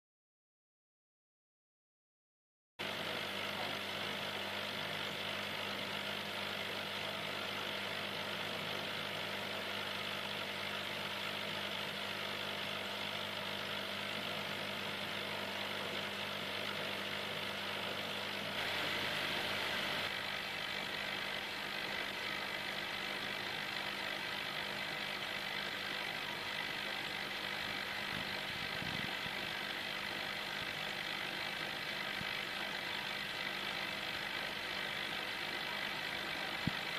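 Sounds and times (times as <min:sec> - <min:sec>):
aquarium equipment humming and hissing: 0:02.8 - 0:36.9.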